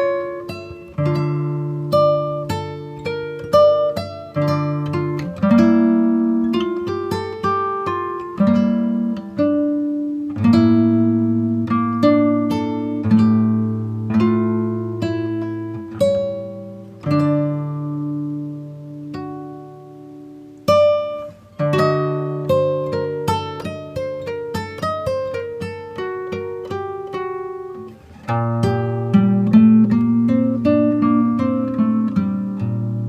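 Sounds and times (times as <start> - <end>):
fingerpicked acoustic guitar: 0.0 - 33.0.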